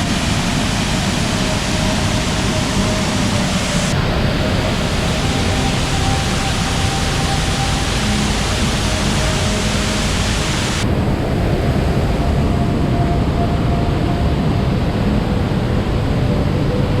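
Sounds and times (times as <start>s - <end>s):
heavy rain: 0.0s - 17.0s
waterfall roaring: 0.0s - 17.0s.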